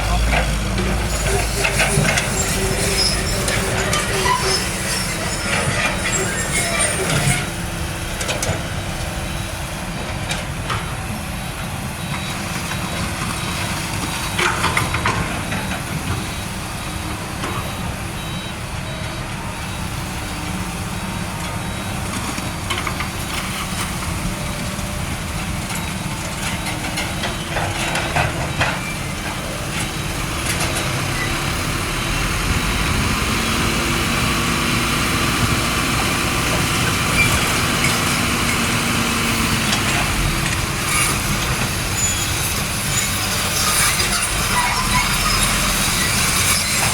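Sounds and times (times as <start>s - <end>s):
diesel truck engines rumbling: 0.0s - 46.9s.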